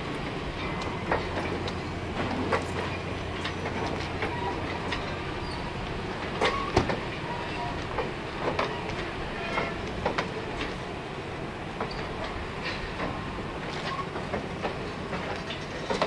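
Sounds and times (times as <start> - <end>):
train wheels clicking over rail joints: 0.0 - 11.0, 11.6 - 16.0.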